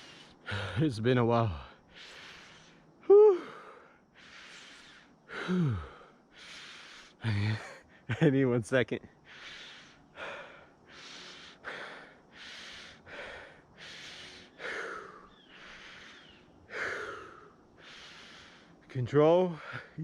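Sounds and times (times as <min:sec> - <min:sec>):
man breathing hard through mask: 0:00.0 - 0:00.9, 0:01.5 - 0:08.1, 0:09.2 - 0:18.9.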